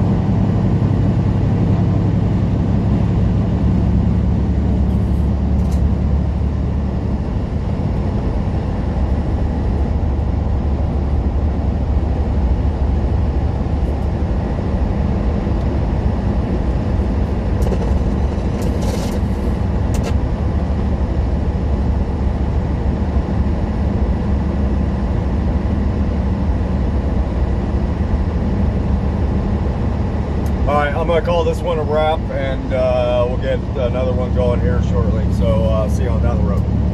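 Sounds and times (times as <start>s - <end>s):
road noise: 0.0s - 36.9s
truck engine drone: 0.0s - 36.9s.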